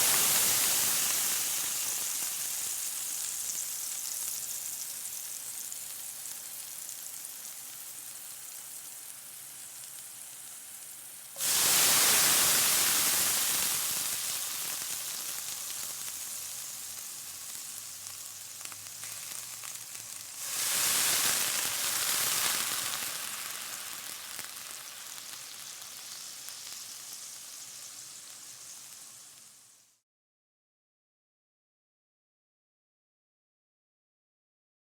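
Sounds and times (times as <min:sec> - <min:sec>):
water sizzling on hot pan: 0:00.0 - 0:30.0.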